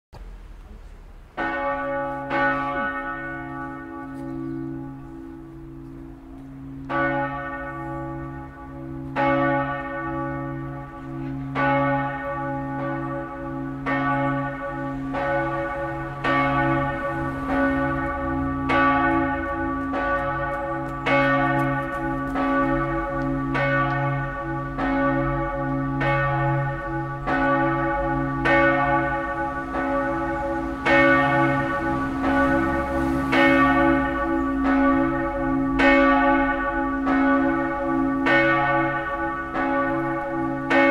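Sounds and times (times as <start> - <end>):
church bells ringing: 1.3 - 40.9.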